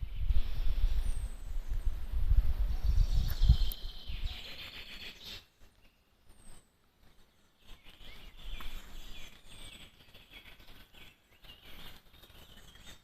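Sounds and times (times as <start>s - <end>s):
low rumble of outdoor noise: 0.0s - 13.0s
small birds chirping: 0.0s - 13.0s.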